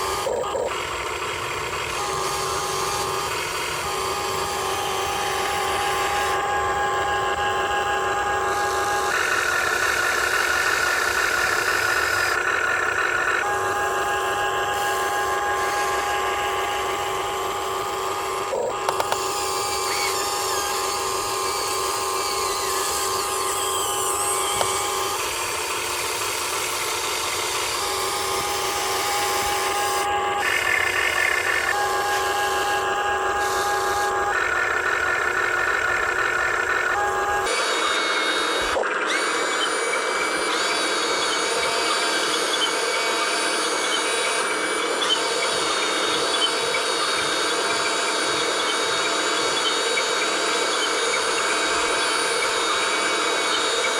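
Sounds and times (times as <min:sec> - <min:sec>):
electric motors whining: 0:00.0 - 0:53.9.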